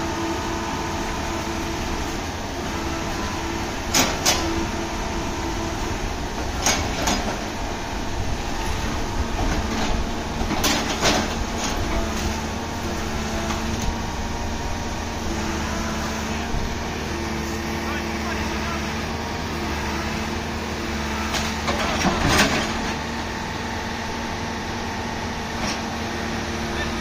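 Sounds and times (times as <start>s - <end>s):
excavator running: 0.0s - 27.0s.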